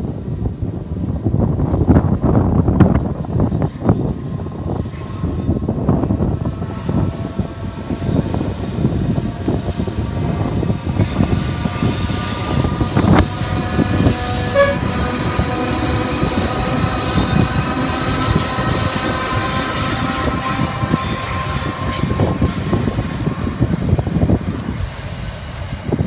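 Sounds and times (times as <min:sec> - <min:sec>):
freight train rumbling and clattering: 0:00.0 - 0:26.0
train wheels squealing on rail: 0:00.0 - 0:26.0.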